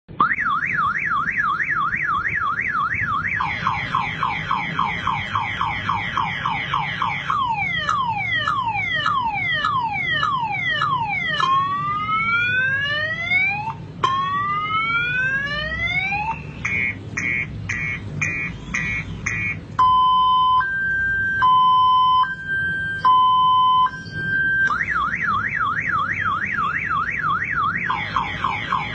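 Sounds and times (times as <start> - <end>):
car alarm siren: 0.1 - 28.9.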